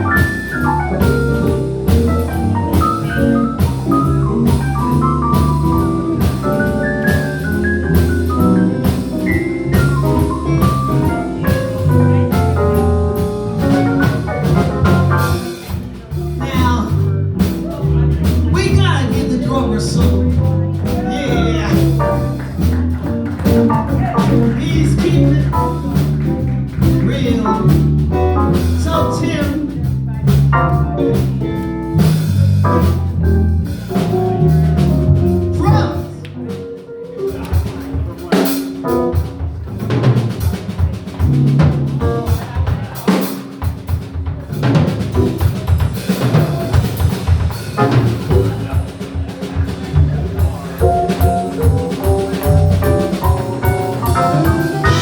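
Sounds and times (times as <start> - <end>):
blues band playing: 0.0 - 55.0.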